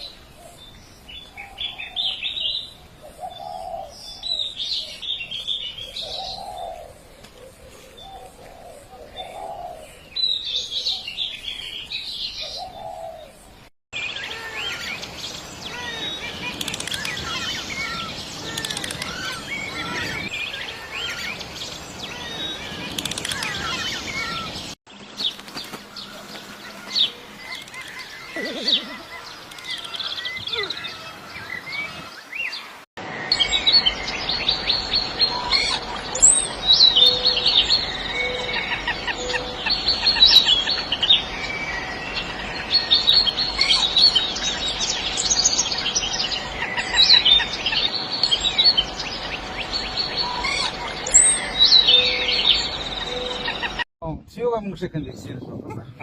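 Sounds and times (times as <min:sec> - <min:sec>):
birds chirping and calling: 0:00.0 - 0:53.8.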